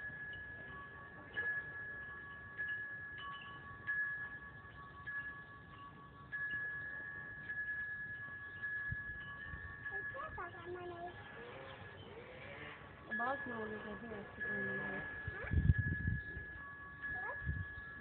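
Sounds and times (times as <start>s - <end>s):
chimes ringing: 0.0s - 18.0s.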